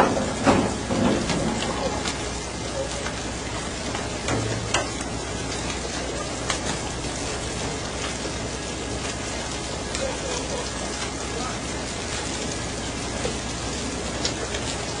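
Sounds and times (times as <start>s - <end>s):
sea water rushing along hull: 0.0s - 15.0s.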